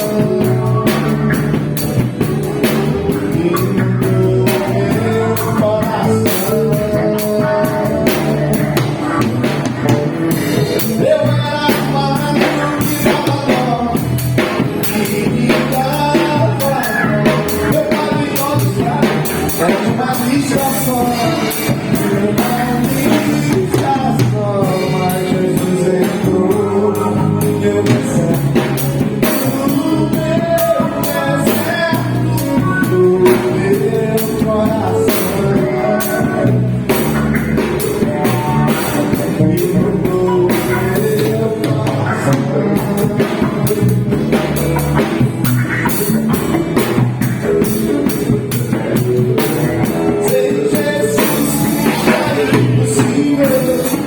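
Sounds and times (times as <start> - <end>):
person singing: 0.0 - 54.0
rock band playing: 0.0 - 54.0.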